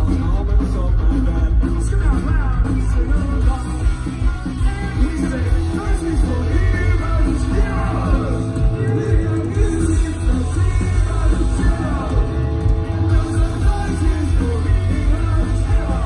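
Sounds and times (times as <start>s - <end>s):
person singing: 0.0s - 16.0s
punk rock band playing: 0.0s - 16.0s.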